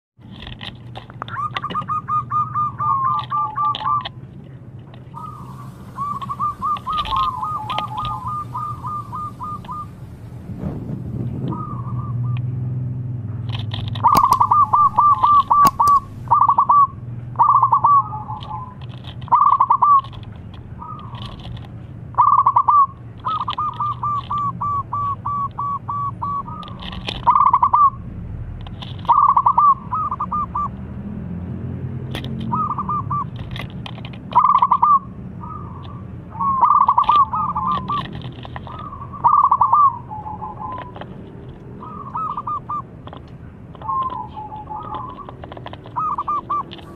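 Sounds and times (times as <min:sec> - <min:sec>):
dove cooing: 0:01.2 - 0:04.2, 0:05.1 - 0:10.4, 0:11.3 - 0:12.6, 0:13.8 - 0:21.6, 0:22.2 - 0:28.0, 0:29.0 - 0:30.8, 0:32.3 - 0:46.9.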